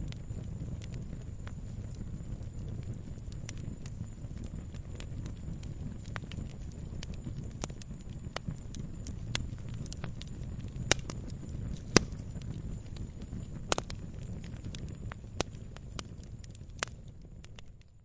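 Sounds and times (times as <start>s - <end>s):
fire crackling and popping: 0.0s - 18.0s
low rumble of flame: 0.0s - 18.0s.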